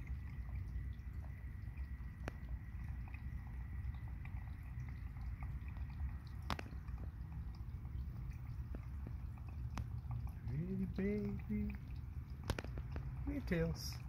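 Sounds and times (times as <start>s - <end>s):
low steady rumble: 0.0s - 14.0s
water drips and clicks: 0.0s - 14.0s.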